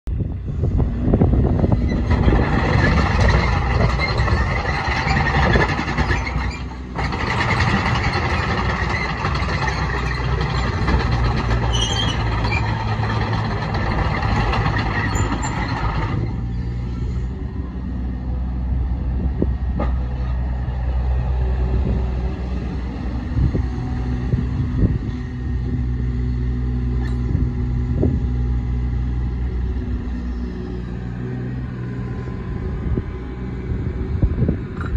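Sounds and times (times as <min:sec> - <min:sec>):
mini excavator diesel engine: 0:00.1 - 0:34.9.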